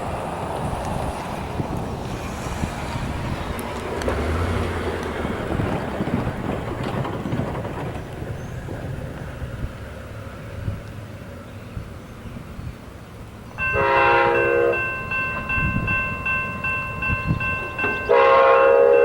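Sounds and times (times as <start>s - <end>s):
wind buffeting microphone: 0.0s - 13.1s, 15.1s - 18.4s
train rumbling: 0.0s - 19.0s.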